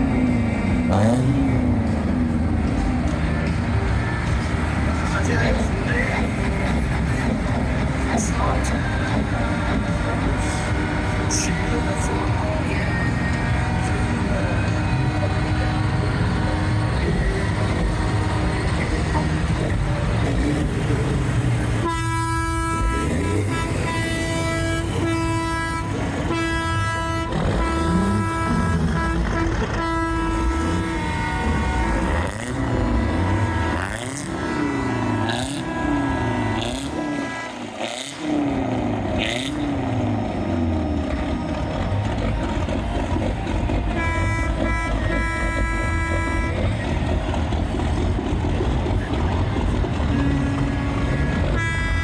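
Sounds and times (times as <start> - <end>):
engines idling: 0.0 - 52.0
truck horn blasts: 0.0 - 52.0.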